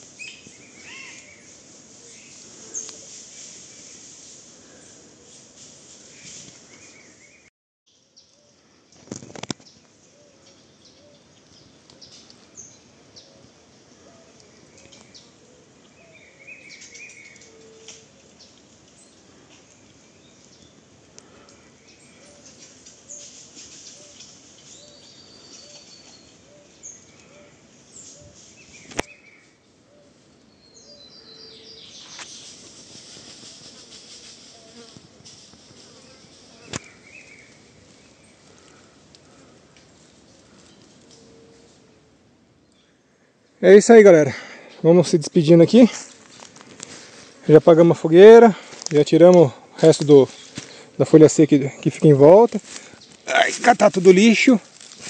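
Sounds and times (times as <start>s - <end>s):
insect hiss: 0.0s - 55.0s.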